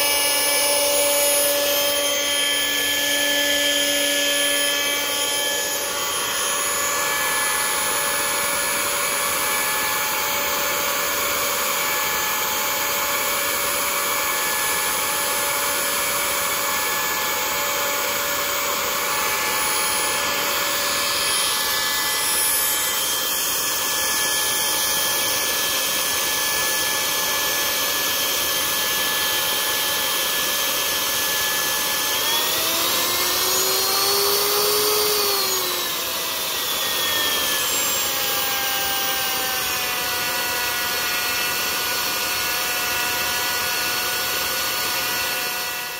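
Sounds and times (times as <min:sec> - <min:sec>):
electric ducted fan whining: 0:00.0 - 0:45.9.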